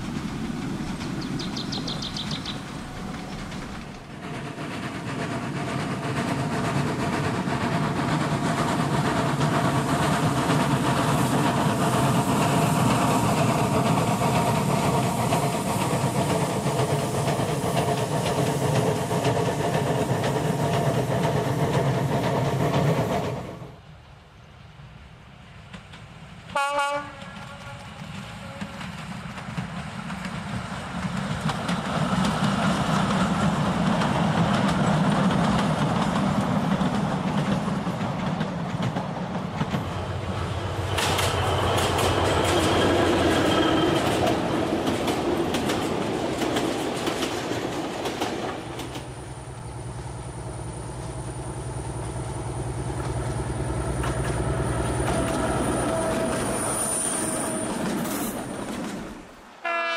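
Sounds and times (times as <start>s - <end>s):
wheels clicking over rail joints: 0.0s - 23.3s, 27.1s - 59.4s
model trains rumbling: 0.0s - 23.8s, 25.6s - 59.8s.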